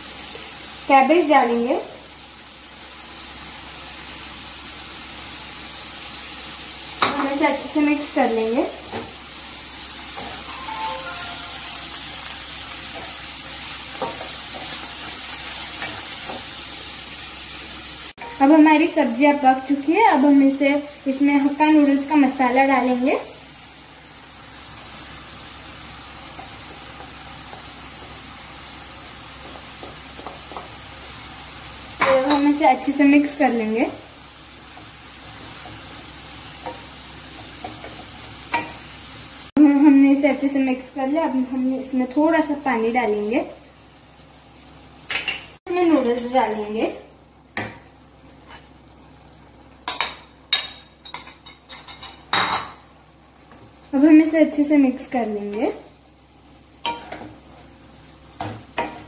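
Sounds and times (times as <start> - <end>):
vegetables sizzling in hot oil: 0.0 - 59.0.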